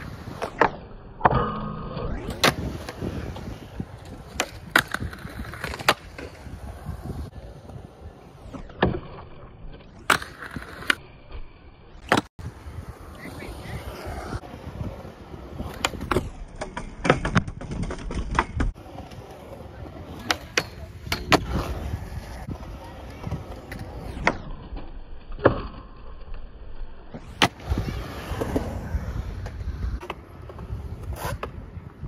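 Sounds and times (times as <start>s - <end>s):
skateboard wheels rolling on concrete: 0.0s - 1.3s, 1.9s - 32.0s.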